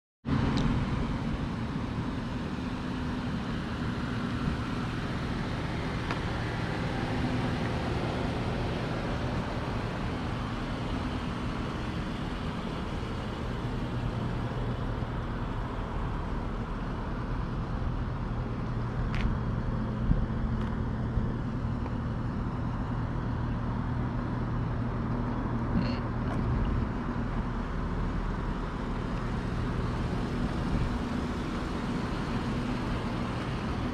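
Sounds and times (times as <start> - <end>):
car engine humming while driving: 0.2 - 33.9
tyre and road noise: 0.2 - 33.9.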